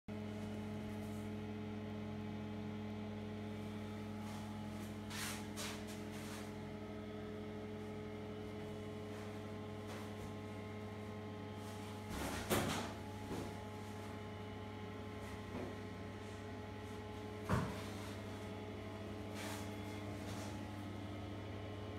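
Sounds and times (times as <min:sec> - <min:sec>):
low electrical hum: 0:00.1 - 0:21.9.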